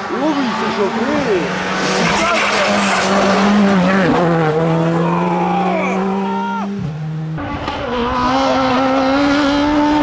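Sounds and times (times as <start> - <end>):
rally car engine running: 0.0 - 10.0.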